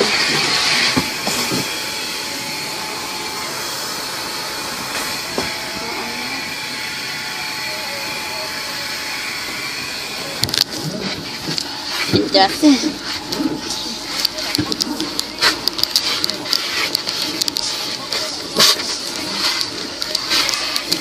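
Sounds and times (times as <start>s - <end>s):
dryer blowers rushing air: 0.0s - 21.0s.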